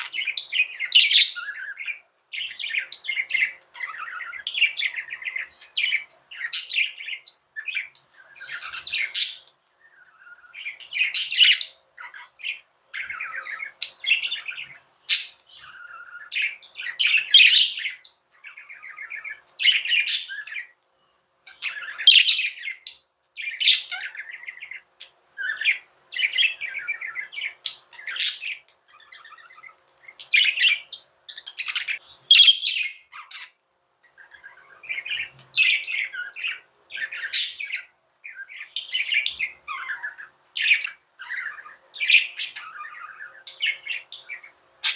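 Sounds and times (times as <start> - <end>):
budgerigars chirping and warbling: 0.0 - 20.8, 21.5 - 44.9.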